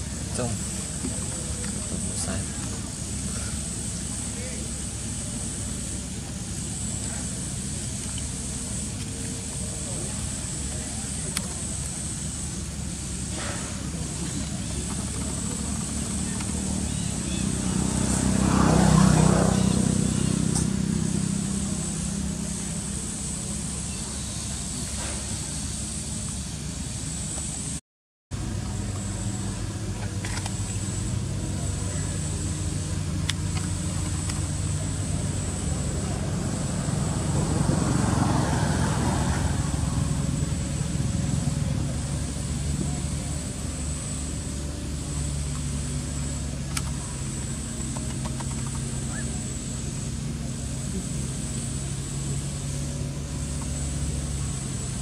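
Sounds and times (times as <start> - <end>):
low engine-like hum: 0.0 - 55.0.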